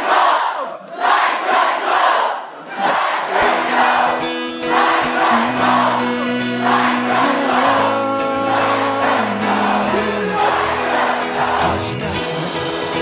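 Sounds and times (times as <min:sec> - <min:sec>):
crowd noise: 0:00.0 - 0:13.0
choir-like chords: 0:01.0 - 0:13.0.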